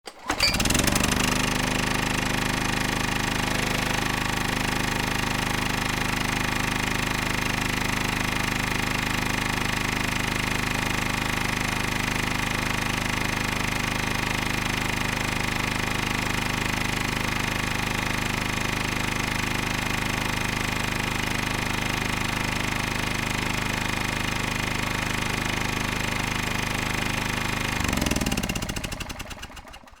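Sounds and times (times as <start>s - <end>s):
generator humming and rattling: 0.0s - 30.0s.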